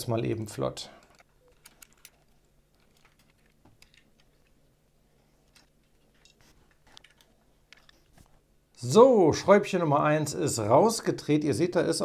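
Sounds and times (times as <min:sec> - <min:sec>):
quiet hum: 0:00.0 - 0:12.0.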